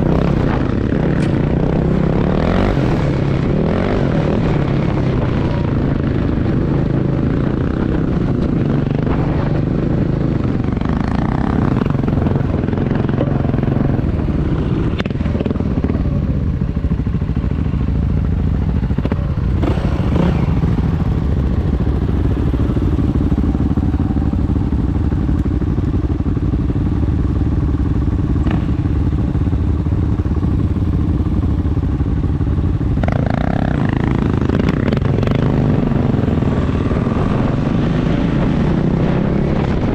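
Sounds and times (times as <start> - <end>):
motorcycle engine running: 0.0 - 39.9
road and wind rumble: 0.0 - 39.9.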